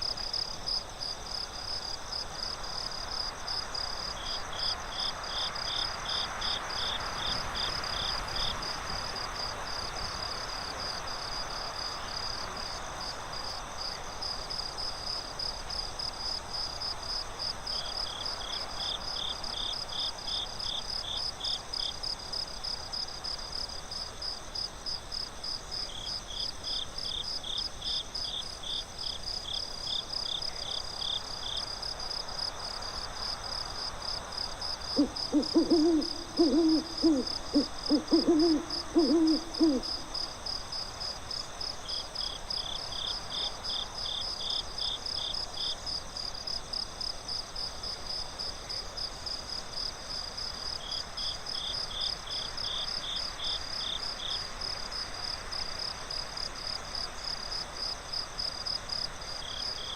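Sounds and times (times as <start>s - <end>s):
crickets chirping: 0.0s - 59.9s
soft hiss: 0.0s - 59.9s.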